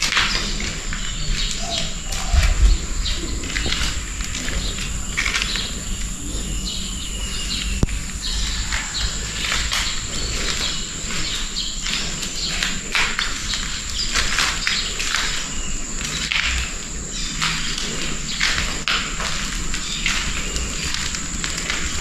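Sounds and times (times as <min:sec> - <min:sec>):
birds chirping: 0:00.0 - 0:22.0
high-pitched insect drone: 0:00.0 - 0:22.0.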